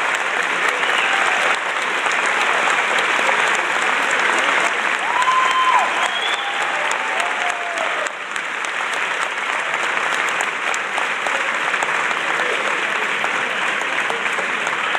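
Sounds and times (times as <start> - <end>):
audience applauding: 0.0 - 14.9.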